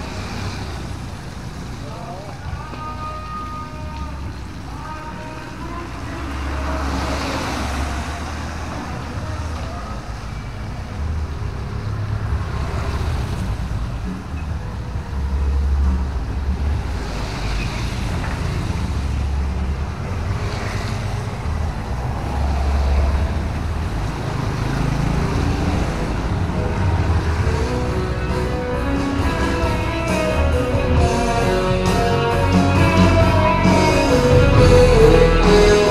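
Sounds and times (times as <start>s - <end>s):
tyres hissing on wet road: 0.0s - 2.9s, 3.8s - 14.1s, 15.1s - 30.7s
low traffic rumble: 0.0s - 35.9s.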